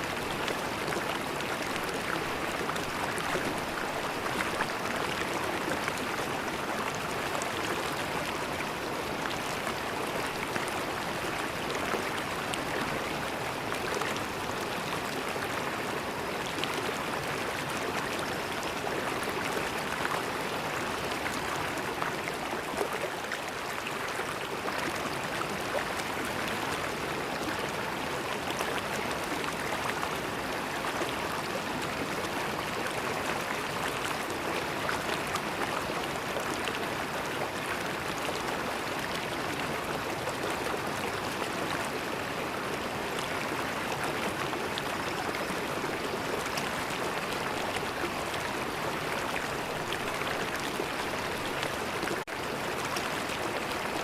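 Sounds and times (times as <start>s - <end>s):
river flowing and splashing: 0.0s - 54.0s.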